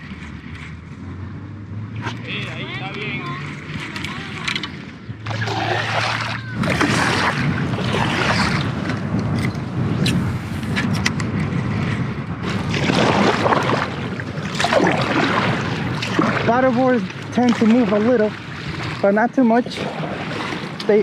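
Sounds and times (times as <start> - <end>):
water lapping and splashing: 0.0 - 21.0
wind buffeting microphone: 0.0 - 21.0.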